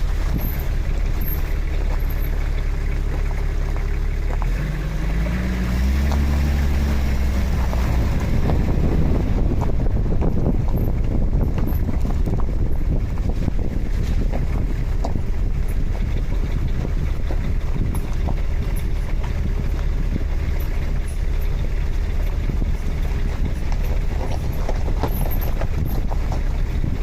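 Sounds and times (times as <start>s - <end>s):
wheel squeaking: 0.0s - 4.6s, 6.0s - 27.0s
road and wind rumble: 0.0s - 27.0s.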